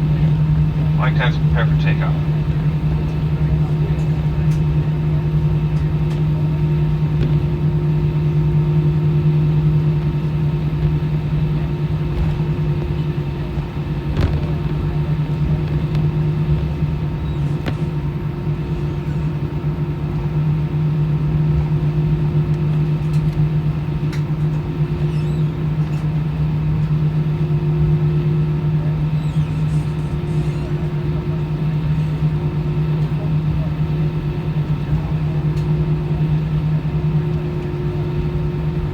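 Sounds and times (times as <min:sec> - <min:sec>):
jet engines humming in cabin: 0:00.0 - 0:38.9.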